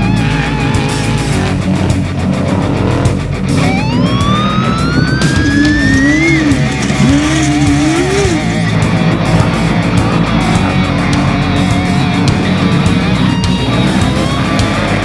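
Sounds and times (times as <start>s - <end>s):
electric guitar bent notes: 0.0s - 15.0s
heavy rock music: 0.0s - 15.0s.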